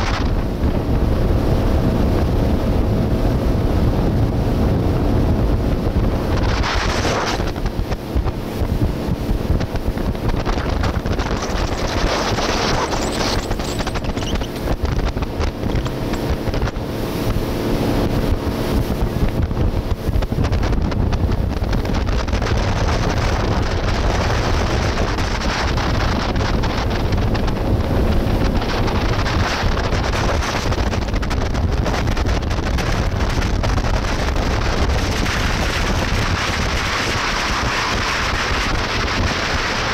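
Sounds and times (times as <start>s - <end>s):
motorboat engine drone: 0.0s - 39.9s
water rushing: 0.0s - 39.9s
wind buffeting microphone: 0.0s - 39.9s.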